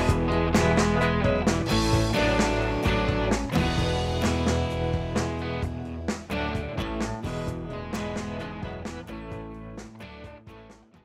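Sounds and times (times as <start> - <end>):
background music with guitar: 0.0 - 11.0.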